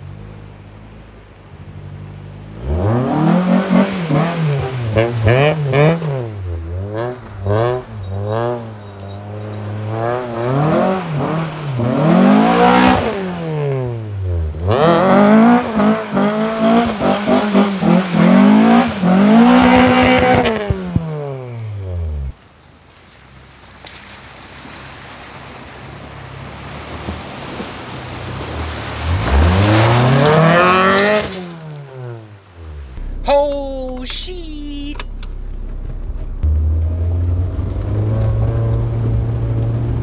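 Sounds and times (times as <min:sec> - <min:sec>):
car engine revving: 0:00.0 - 0:22.4, 0:28.4 - 0:40.0.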